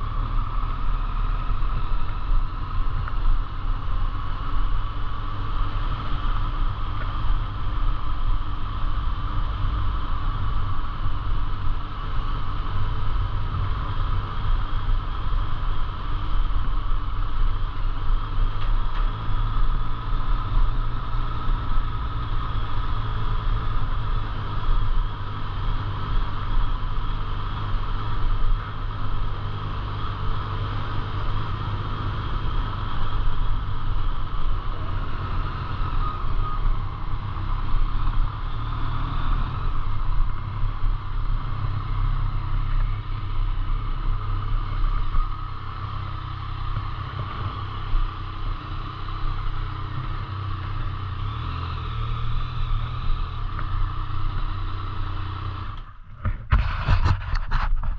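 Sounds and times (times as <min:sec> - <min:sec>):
vehicle engine and road rumble: 0:00.0 - 0:57.9.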